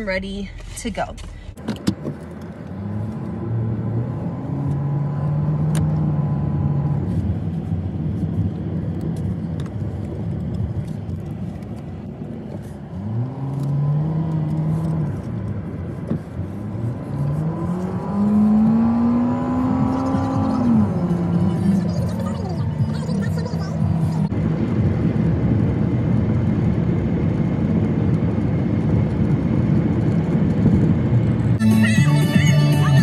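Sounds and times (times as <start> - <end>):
car engine accelerating: 0.0 - 33.0
road noise: 0.0 - 33.0.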